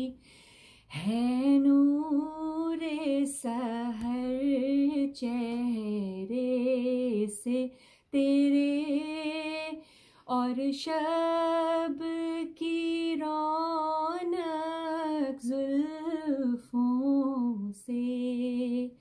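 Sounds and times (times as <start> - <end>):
woman singing unaccompanied: 0.0 - 0.2, 0.9 - 19.0.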